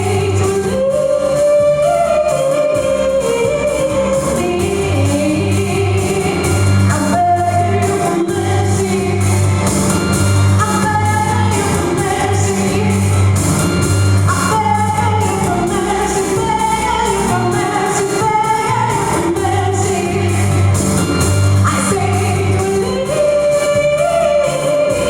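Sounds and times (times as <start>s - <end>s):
woman singing: 0.0s - 9.6s, 10.6s - 13.4s, 14.3s - 25.0s
pulsing bass: 0.0s - 25.0s
drum beat: 2.8s - 25.0s.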